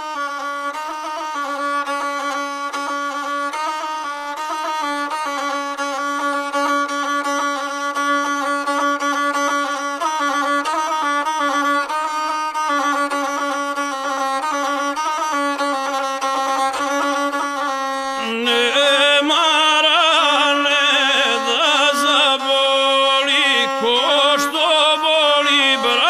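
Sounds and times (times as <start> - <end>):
bowed string folk instrument: 0.0 - 26.0.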